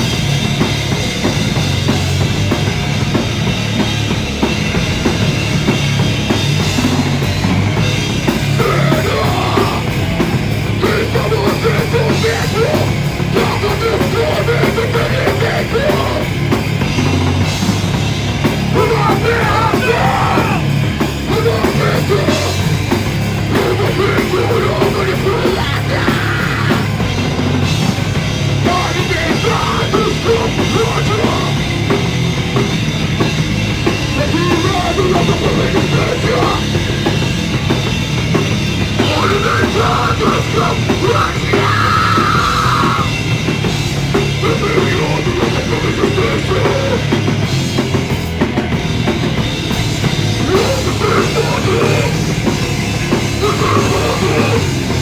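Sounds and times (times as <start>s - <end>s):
punk rock band playing live: 0.0s - 55.0s.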